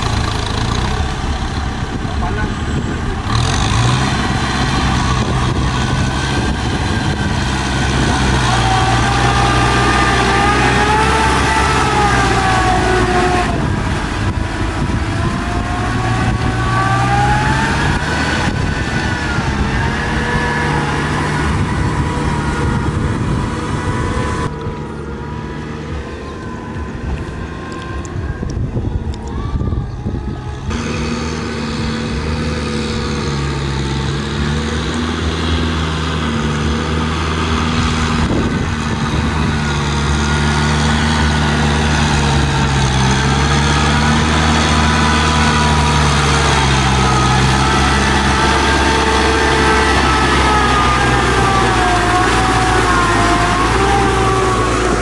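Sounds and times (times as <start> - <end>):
engine whine: 0.0 - 55.0
tractor diesel engine running: 0.0 - 55.0.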